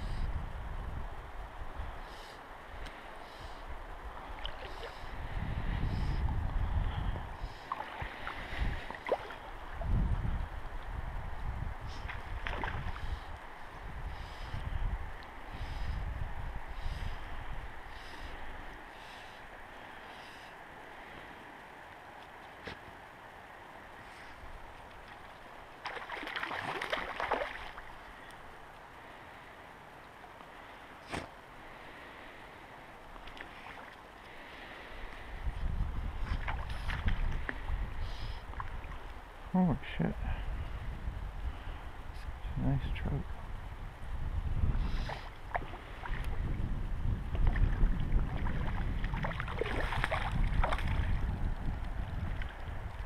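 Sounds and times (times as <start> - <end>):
wind rumble: 0.0 - 29.6, 34.3 - 53.0
moving water: 0.0 - 53.0.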